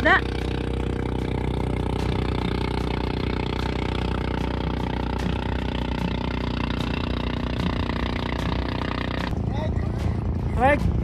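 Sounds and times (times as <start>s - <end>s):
boat engine droning: 0.0s - 10.4s.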